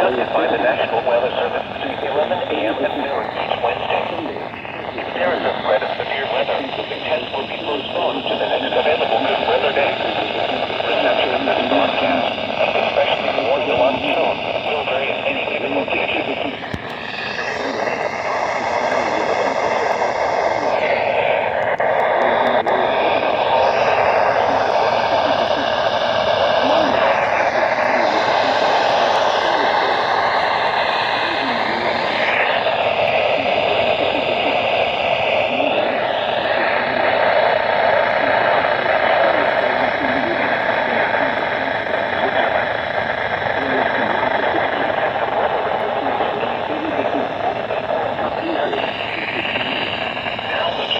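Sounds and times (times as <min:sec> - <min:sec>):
faint voice under noise: 0:00.0 - 0:42.8
radio static hiss: 0:00.0 - 0:50.9.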